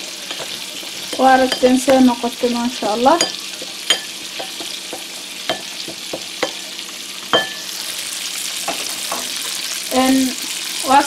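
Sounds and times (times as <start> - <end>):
meat frying in oil: 0.0 - 11.0.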